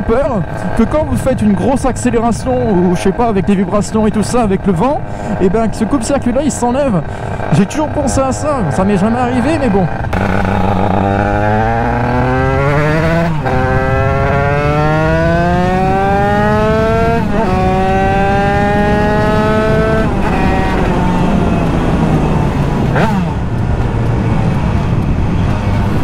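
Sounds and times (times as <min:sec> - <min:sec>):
two-stroke engine accelerating: 0:00.0 - 0:26.0.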